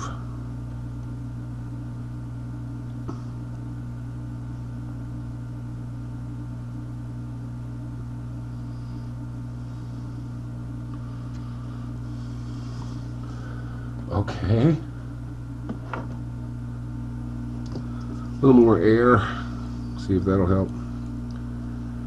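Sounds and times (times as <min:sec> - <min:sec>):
hot-air station humming and hissing: 0:00.0 - 0:22.0.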